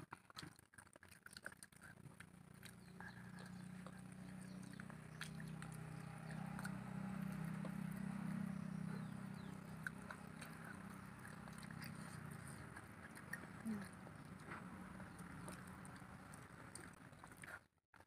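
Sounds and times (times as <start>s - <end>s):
chewing: 0.0s - 18.0s
fingers mixing food on plates: 0.8s - 17.6s
low hum: 2.3s - 17.4s.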